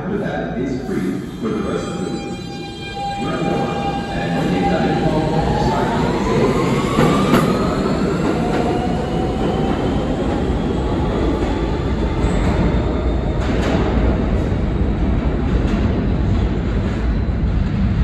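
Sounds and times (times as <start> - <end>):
train wheel and track noise: 0.8 - 18.0.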